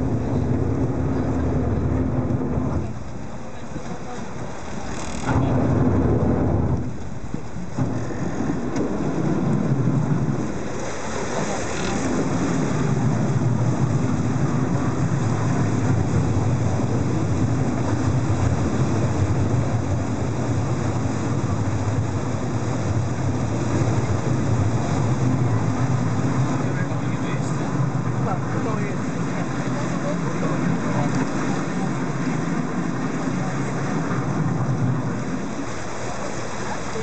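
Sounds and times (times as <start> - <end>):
boat engine humming: 0.0 - 37.0
water rushing: 0.0 - 37.0
wind on microphone: 0.0 - 37.0.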